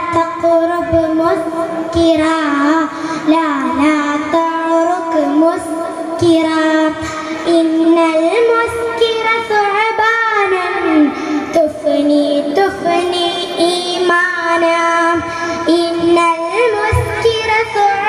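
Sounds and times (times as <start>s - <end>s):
girl singing into a microphone: 0.0s - 18.0s.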